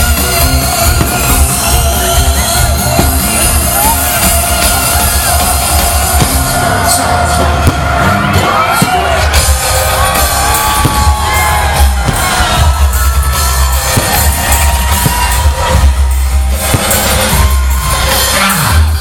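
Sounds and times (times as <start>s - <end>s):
crowd whooping and yelling: 0.0s - 19.0s
live band music with heavy bass: 0.0s - 19.0s.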